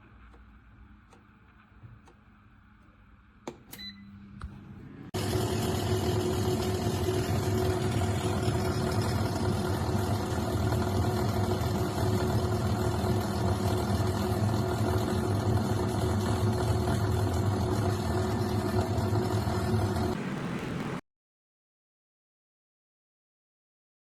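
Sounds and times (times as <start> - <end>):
air fryer fan humming: 0.0 - 20.2.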